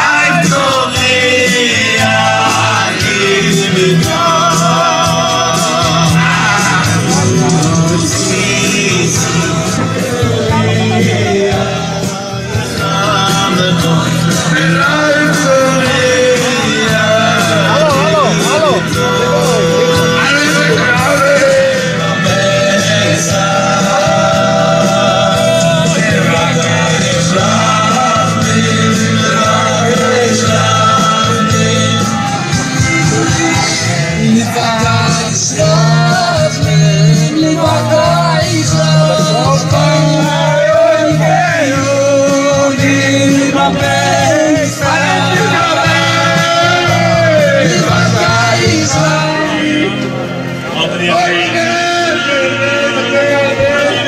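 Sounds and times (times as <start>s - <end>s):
music with singing: 0.0s - 54.0s.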